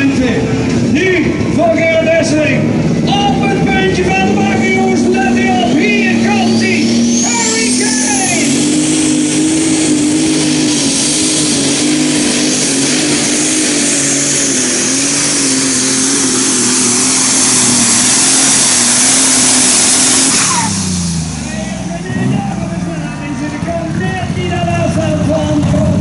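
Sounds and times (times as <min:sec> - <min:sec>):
diesel engine under heavy load: 0:00.0 - 0:26.0.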